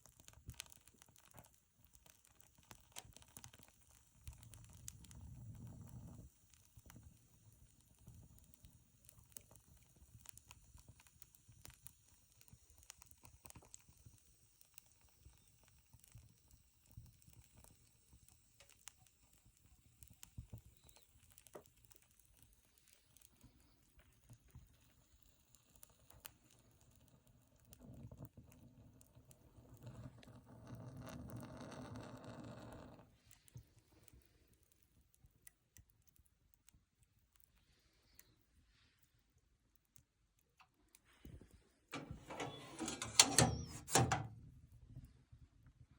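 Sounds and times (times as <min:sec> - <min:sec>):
firewood crackling in a stove: 0:00.0 - 0:45.9.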